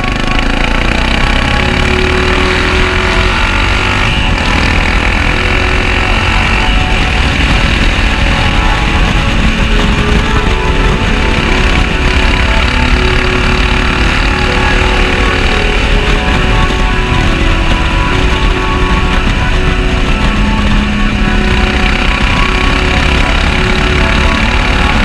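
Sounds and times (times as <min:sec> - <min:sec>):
motorcycle engine with loud exhaust: 0:00.0 - 0:25.0.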